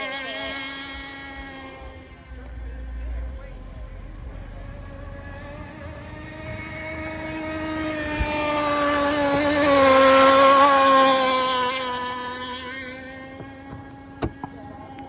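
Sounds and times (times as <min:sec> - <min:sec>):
model speedboat motor passing: 0:00.0 - 0:15.0.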